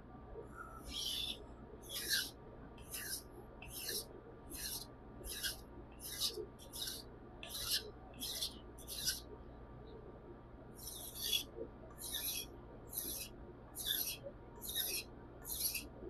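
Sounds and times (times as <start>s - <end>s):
knife rasping on whetstone: 0.7s - 9.3s, 10.8s - 16.0s.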